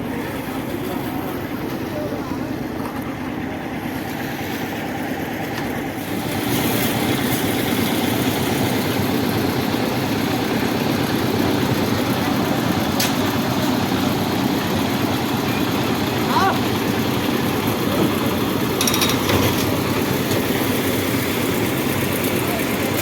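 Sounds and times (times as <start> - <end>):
concrete mixer engine running: 0.0 - 23.0.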